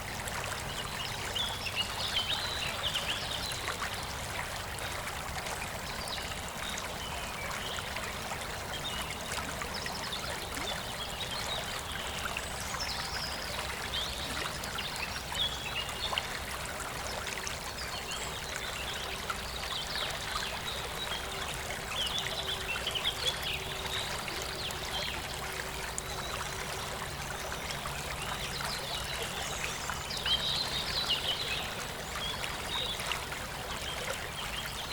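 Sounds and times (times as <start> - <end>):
stream water trickling: 0.0 - 34.9.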